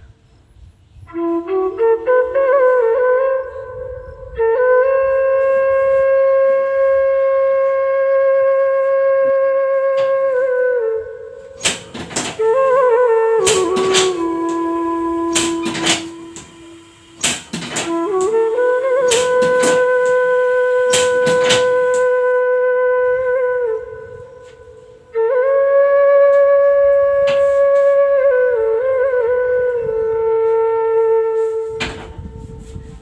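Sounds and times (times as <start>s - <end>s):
flute playing sliding notes: 0.9s - 33.0s.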